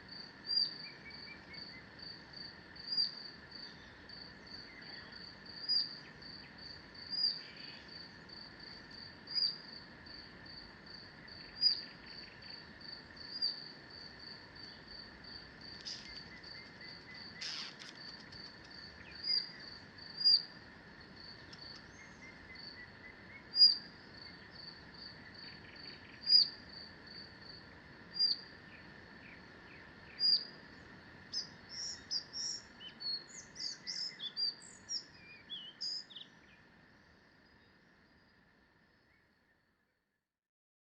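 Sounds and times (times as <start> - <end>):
bird song: 0.0 - 27.5, 28.1 - 40.2
faint insect hum: 0.0 - 40.4.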